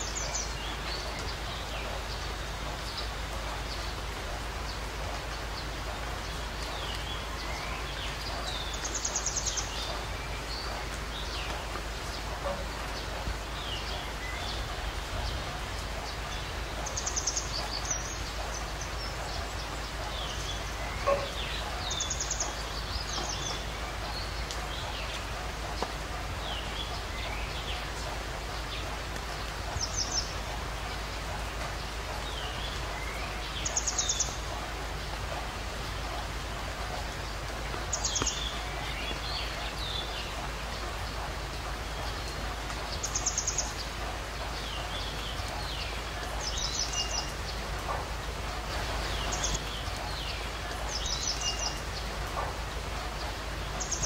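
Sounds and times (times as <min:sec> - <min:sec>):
birds chirping: 0:00.0 - 0:54.0
outdoor background noise: 0:00.0 - 0:54.0.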